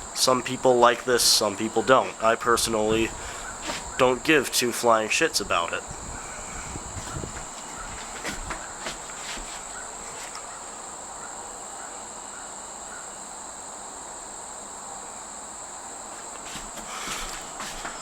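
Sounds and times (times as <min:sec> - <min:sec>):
ceiling fans whirring: 0:00.0 - 0:18.0
crickets chirping: 0:00.0 - 0:18.0.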